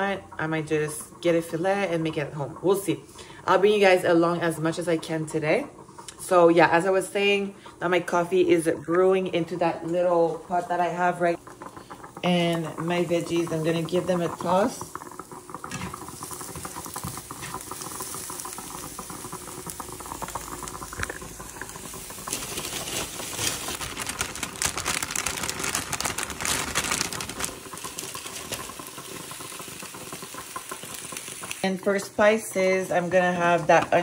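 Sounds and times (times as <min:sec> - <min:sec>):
vegetables sizzling in a frying pan: 0:00.0 - 0:34.0.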